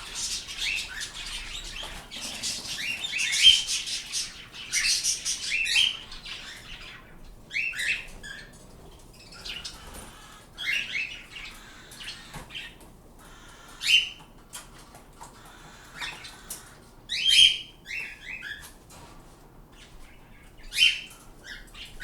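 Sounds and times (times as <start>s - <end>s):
pet birds chirping: 0.0s - 18.8s, 19.7s - 22.0s.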